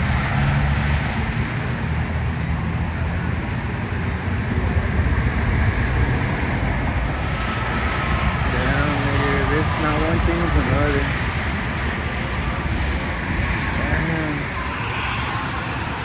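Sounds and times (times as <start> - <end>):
vehicle engine rumbling: 0.0 - 15.0
road traffic noise: 0.0 - 16.0.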